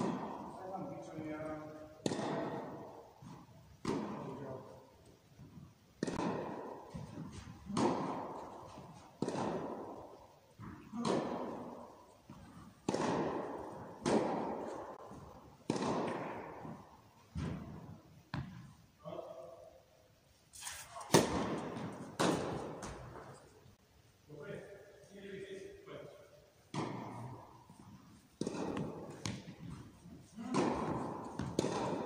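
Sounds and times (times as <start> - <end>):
tennis balls struck and bouncing: 0.0 - 19.3, 20.6 - 23.6, 26.6 - 32.0.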